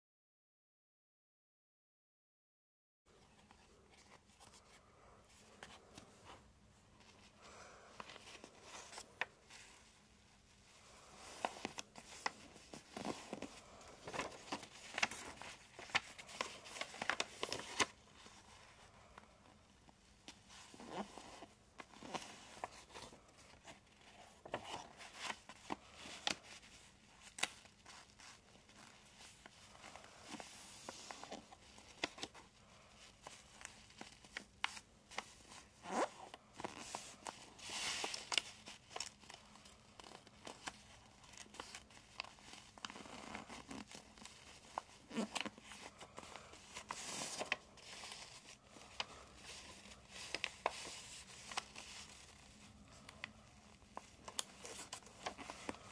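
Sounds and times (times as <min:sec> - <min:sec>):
paper being folded and creased: 0:07.9 - 0:19.2, 0:20.0 - 0:55.9.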